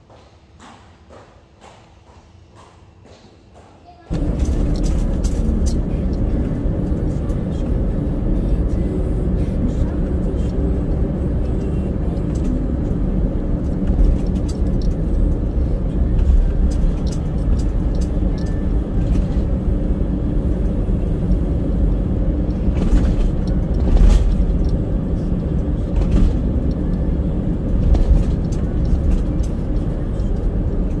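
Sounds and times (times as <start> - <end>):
car road noise at speed: 4.1 - 31.0.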